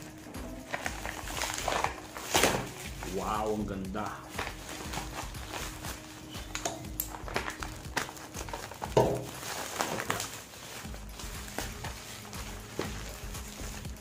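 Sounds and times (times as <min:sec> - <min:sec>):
bubble wrap crinkling: 0:00.0 - 0:14.0
faint background music: 0:00.0 - 0:14.0.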